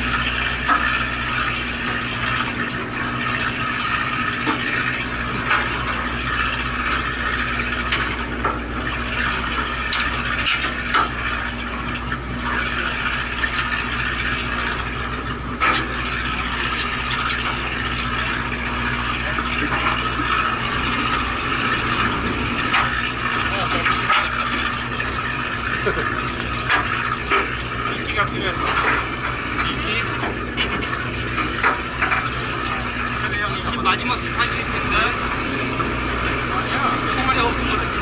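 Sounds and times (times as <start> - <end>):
boat engine running: 0.0 - 38.0
water washing against hull: 0.0 - 38.0.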